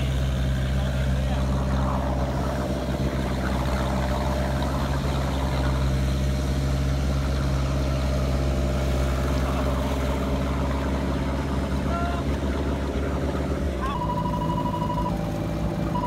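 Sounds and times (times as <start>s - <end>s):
car engine running low: 0.0s - 16.0s.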